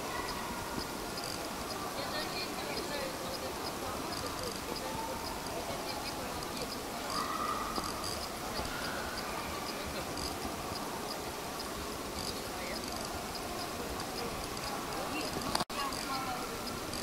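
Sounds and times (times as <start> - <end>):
faint high chirping: 0.0 - 17.0
murmur of distant voices: 0.0 - 17.0.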